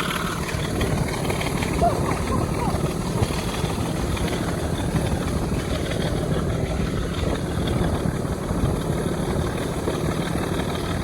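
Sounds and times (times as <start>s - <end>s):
locomotive engine under full power: 0.0s - 11.0s.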